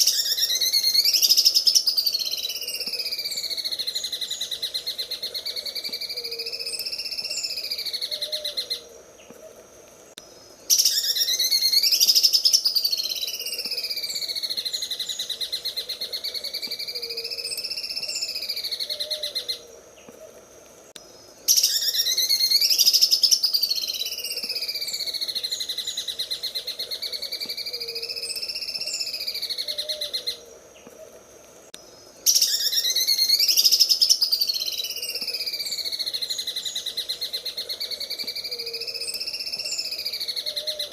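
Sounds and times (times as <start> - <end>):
bird singing rattling trill: 0.0 - 8.8, 10.7 - 19.6, 21.5 - 30.4, 32.2 - 40.9.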